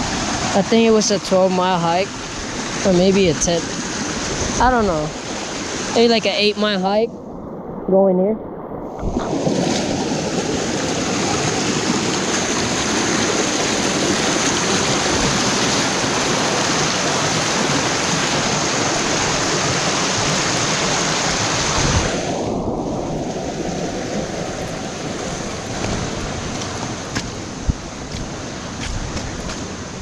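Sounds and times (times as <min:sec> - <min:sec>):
creek water rushing: 0:00.0 - 0:08.1, 0:08.8 - 0:30.0.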